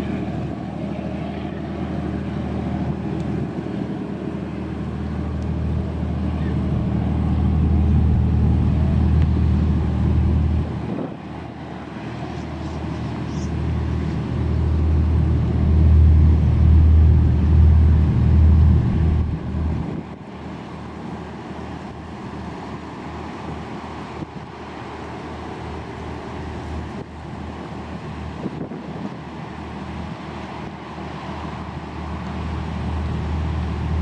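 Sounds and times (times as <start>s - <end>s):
ferry engines droning: 0.0s - 34.0s.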